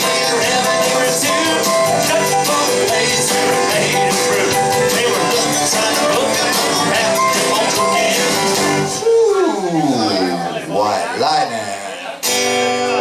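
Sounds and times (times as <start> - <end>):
country band playing: 0.0 - 13.0
guitar: 0.0 - 13.0.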